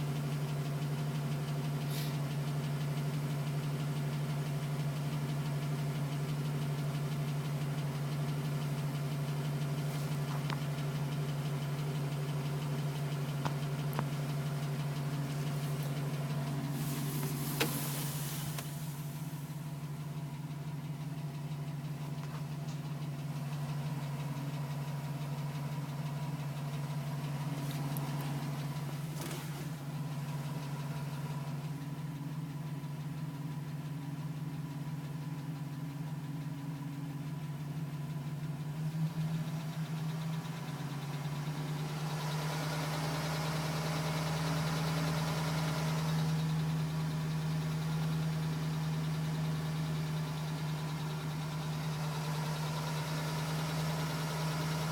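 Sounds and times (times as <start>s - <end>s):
engine tapping: 0.0s - 54.9s
pickup engine idling: 0.0s - 54.9s.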